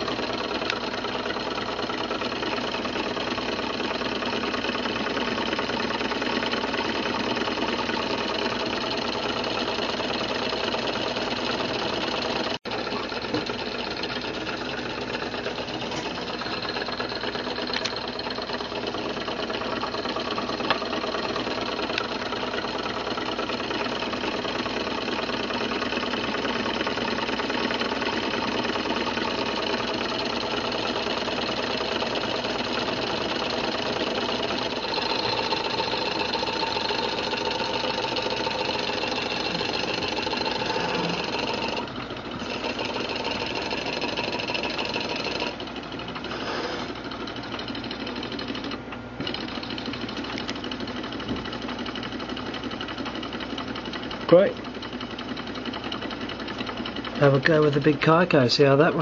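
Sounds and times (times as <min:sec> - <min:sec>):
small engines running mechanically: 0:00.0 - 0:59.0.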